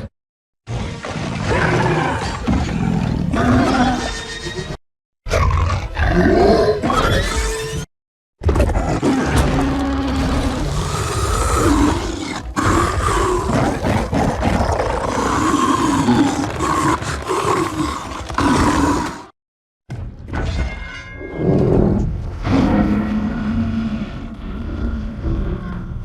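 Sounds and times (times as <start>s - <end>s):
monster roaring and growling: 0.7s - 4.2s, 5.3s - 19.3s, 21.5s - 26.0s.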